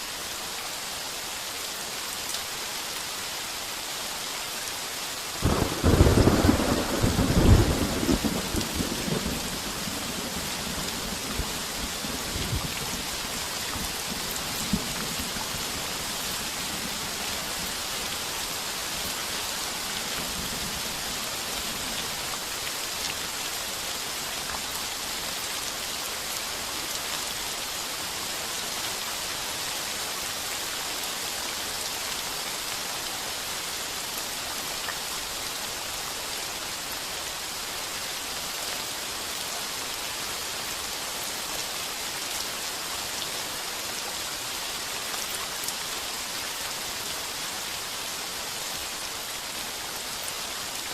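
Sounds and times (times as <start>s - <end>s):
heavy rain on a tin roof: 0.0s - 50.9s.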